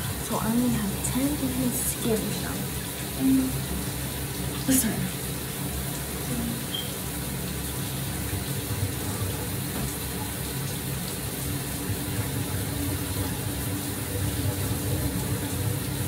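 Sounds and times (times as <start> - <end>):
shower water running: 0.0 - 16.0.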